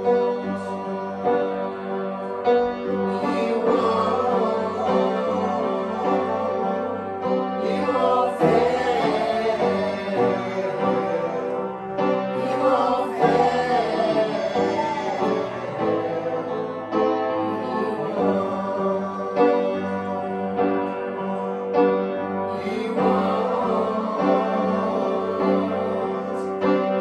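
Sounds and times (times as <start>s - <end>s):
group of voices singing: 0.0s - 27.0s
upright piano playing: 0.0s - 27.0s.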